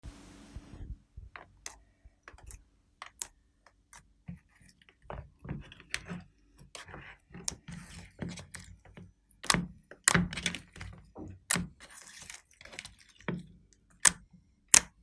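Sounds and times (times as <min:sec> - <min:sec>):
small objects clicking and tapping: 0:01.4 - 0:15.0.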